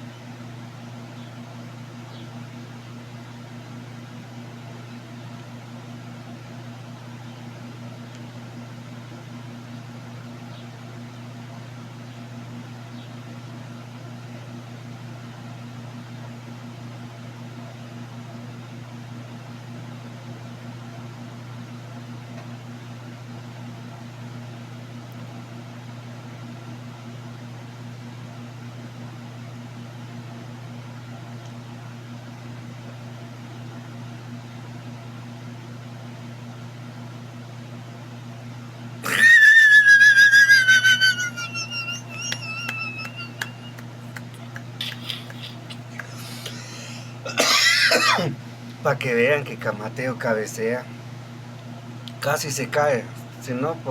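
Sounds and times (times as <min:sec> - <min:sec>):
low motor hum with hiss: 0:00.0 - 0:53.9.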